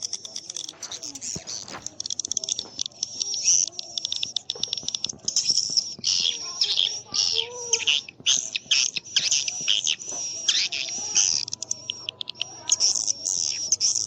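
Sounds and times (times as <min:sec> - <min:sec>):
swiftlet twittering chirps: 0:00.0 - 0:14.0.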